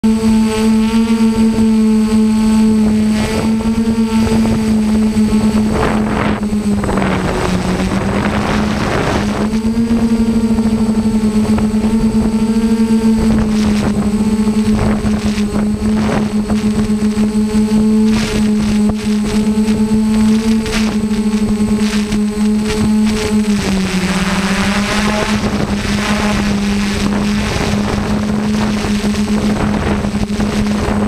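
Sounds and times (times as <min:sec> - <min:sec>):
drone propellers humming: 0:00.0 - 0:31.0
wind buffeting microphone: 0:02.7 - 0:31.0.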